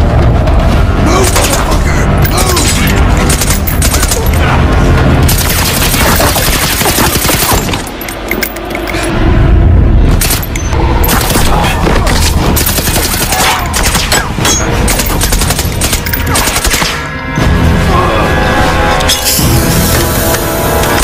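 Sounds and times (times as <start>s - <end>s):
film score: 0.0s - 21.0s.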